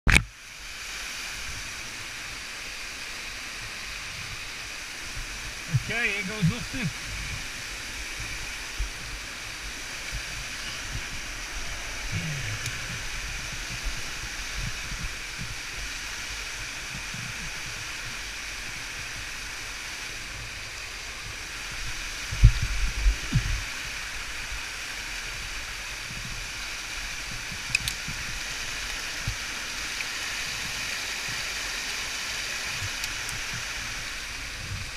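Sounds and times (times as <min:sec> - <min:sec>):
waterfall rushing: 0:00.2 - 0:34.9.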